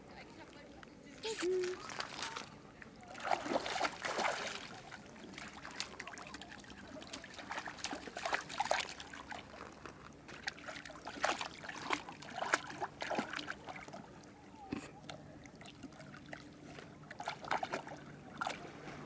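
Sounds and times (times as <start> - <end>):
shallow water splashing: 1.4 - 14.2, 15.5 - 19.0.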